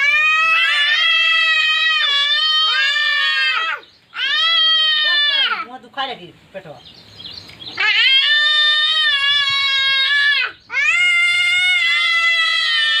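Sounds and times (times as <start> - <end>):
boy shouting high-pitched cries: 0.0 - 5.7, 7.8 - 13.0.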